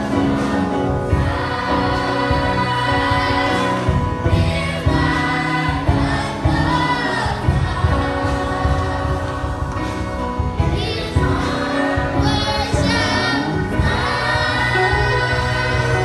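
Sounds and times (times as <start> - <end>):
choir singing: 0.0 - 16.0
instrumental accompaniment: 0.0 - 16.0.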